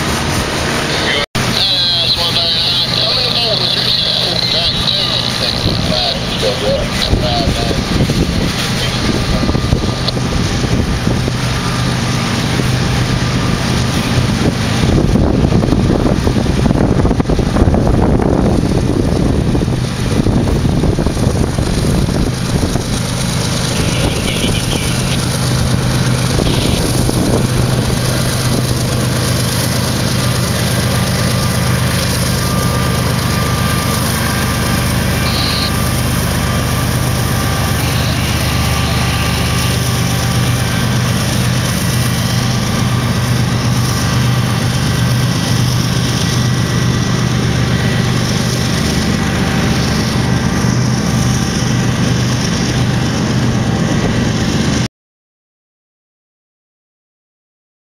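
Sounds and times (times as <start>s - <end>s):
diesel locomotive engines roaring: 0.0s - 54.9s.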